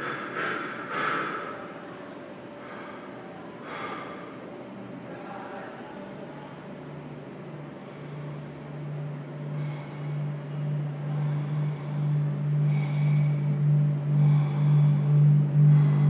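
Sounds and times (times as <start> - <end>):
low pulsing drone: 0.0 - 16.0.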